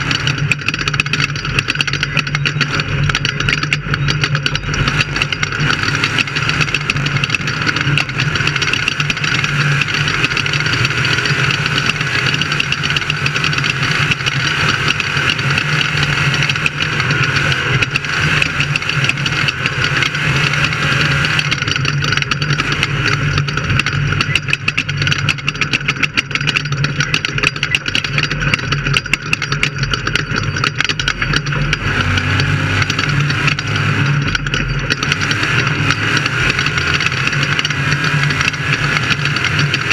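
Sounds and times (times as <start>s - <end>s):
race vehicle engine running: 0.0s - 39.9s
rapid clatter: 0.0s - 39.9s.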